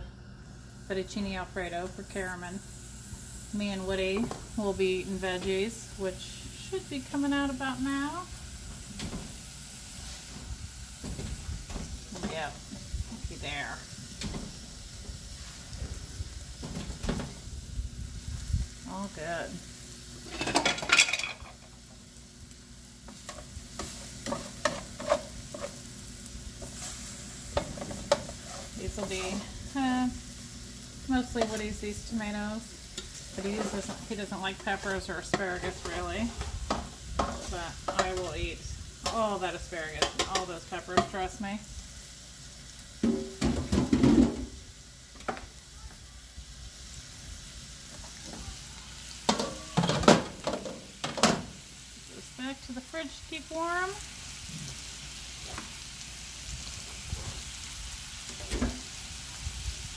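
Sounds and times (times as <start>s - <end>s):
chicken sizzling in grill pan: 0.0s - 59.9s.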